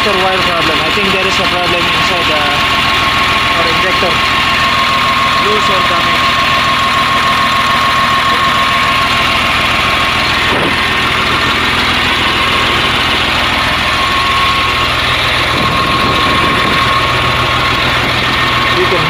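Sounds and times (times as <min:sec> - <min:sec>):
diesel engine running: 0:00.0 - 0:19.0
high whine: 0:00.0 - 0:19.0.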